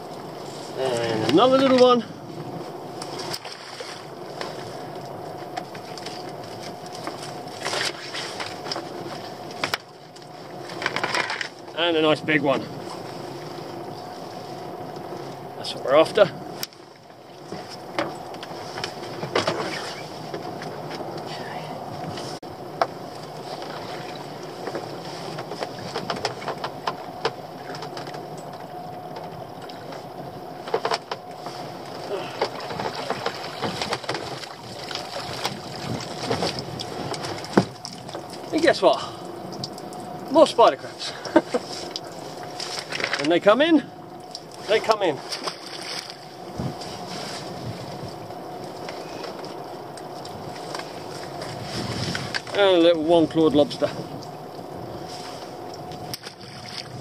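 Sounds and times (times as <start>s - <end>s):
low hum: 0.0s - 57.0s
outboard motor idling: 0.0s - 57.0s.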